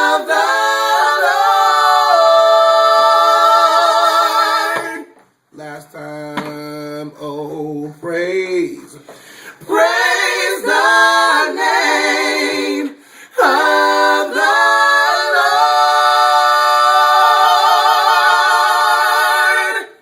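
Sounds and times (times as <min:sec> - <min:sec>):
a cappella group singing: 0:00.0 - 0:20.0.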